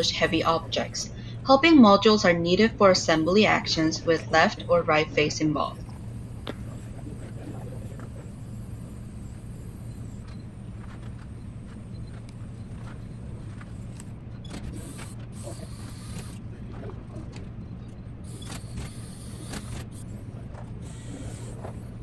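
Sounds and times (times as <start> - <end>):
motors and gears whirring: 0.0 - 1.4, 2.0 - 22.0
low hum: 0.0 - 22.0.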